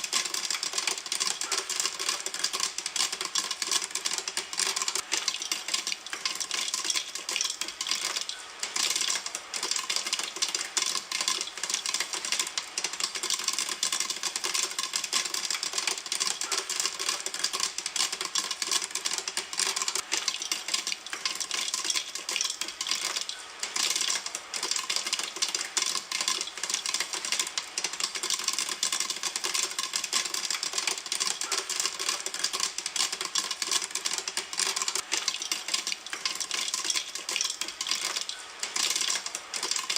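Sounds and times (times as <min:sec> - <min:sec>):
popcorn popping in a pan: 0:00.0 - 0:39.9.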